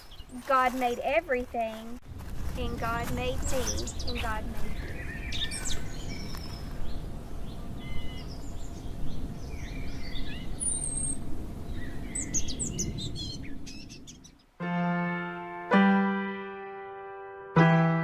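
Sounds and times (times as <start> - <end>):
birds chirping: 0.0 - 1.8, 2.8 - 15.4.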